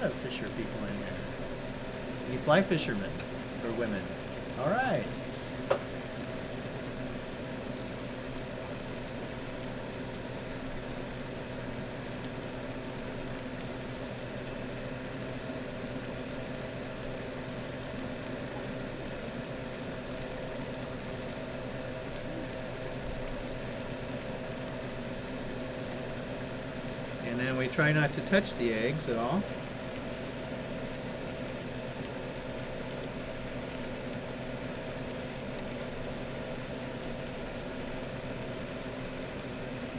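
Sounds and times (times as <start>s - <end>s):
electric hum of tank equipment: 0.0s - 39.9s.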